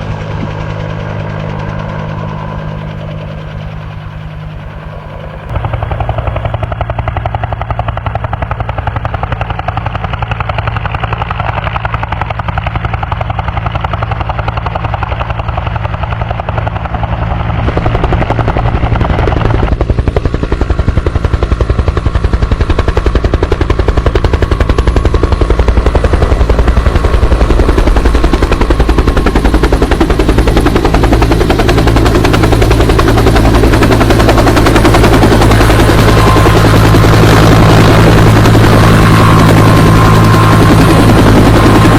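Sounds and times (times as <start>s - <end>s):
helicopter rotor thudding: 0.0s - 41.9s.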